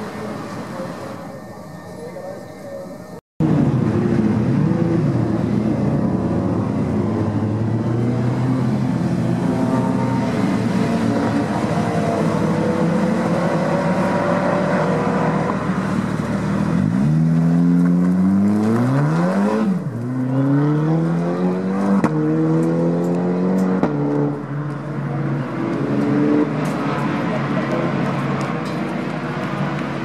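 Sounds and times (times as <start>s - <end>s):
race car accelerating through gears: 3.4s - 28.6s.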